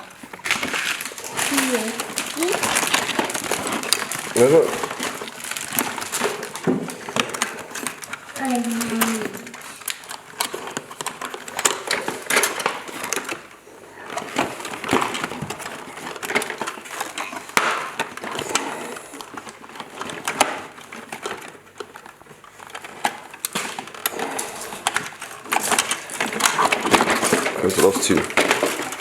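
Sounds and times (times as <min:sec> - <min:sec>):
packaging crinkling: 0:00.0 - 0:29.0
plastic toy parts clicking and rattling: 0:00.0 - 0:29.0.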